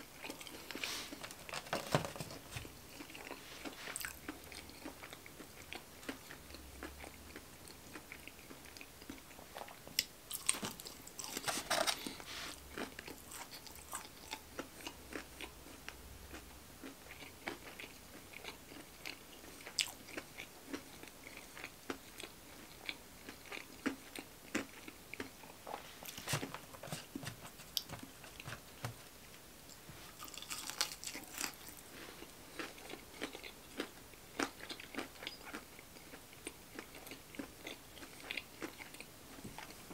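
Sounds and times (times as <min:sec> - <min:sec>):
person chewing: 0:00.0 - 0:39.8.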